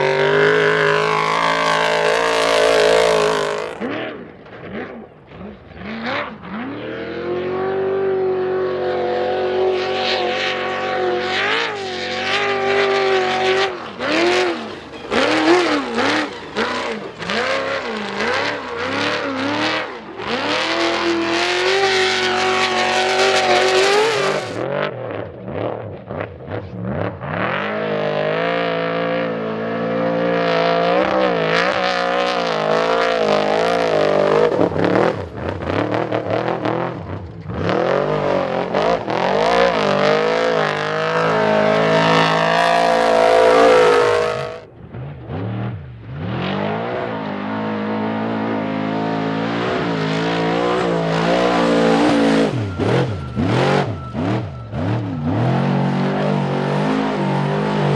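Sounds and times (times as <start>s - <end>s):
race engines revving: 0.0s - 57.9s.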